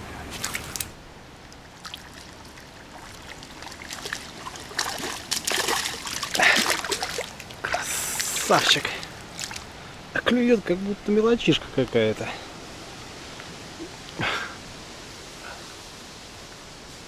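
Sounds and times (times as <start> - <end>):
water splashing and trickling: 0.0 - 15.4.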